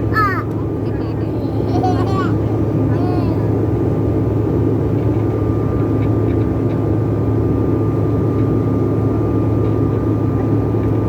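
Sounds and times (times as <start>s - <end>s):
airplane cabin engine hum: 0.0s - 11.0s.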